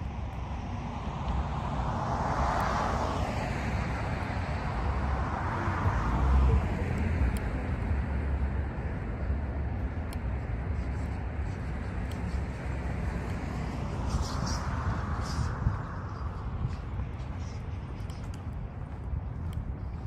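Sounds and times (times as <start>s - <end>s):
steady low rumble: 0.0s - 20.0s
vehicle passing: 0.6s - 19.9s.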